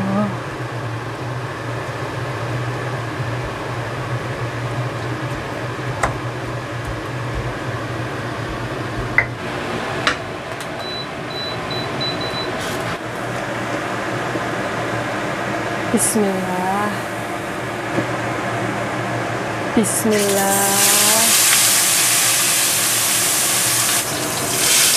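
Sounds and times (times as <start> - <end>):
steady mechanical hum: 0.0 - 24.9.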